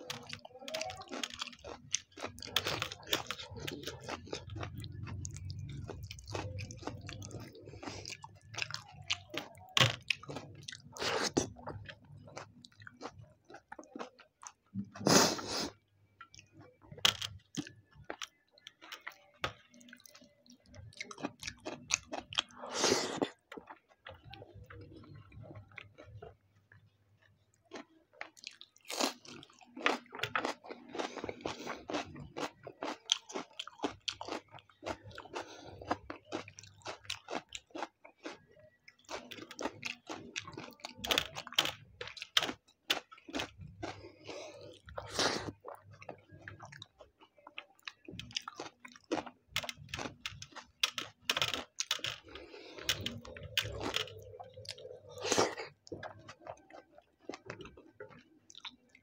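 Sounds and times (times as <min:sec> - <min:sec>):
close-miked chewing: 0:00.0 - 0:59.0.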